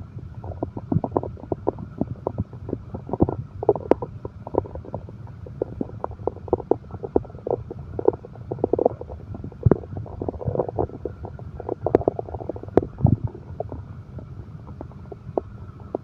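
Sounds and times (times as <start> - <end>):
stomach growling: 0.0 - 16.0.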